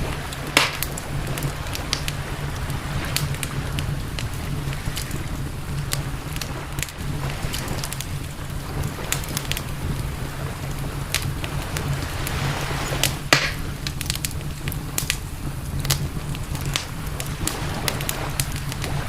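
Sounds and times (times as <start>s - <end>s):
campfire crackling and popping: 0.0s - 19.0s
low rumble: 0.0s - 19.0s.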